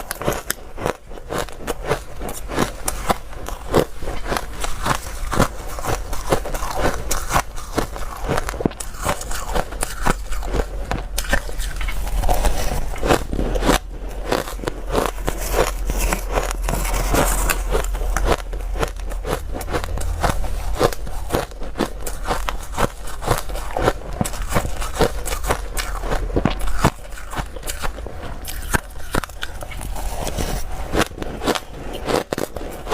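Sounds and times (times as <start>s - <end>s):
chewing crunchy ice: 0.0s - 32.9s.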